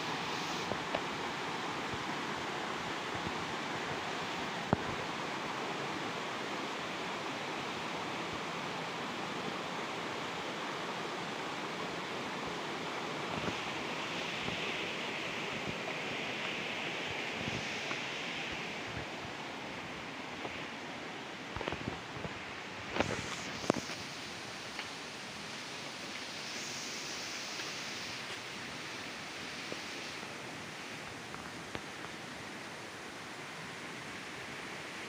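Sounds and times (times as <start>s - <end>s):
rushing wind: 0.0s - 35.0s.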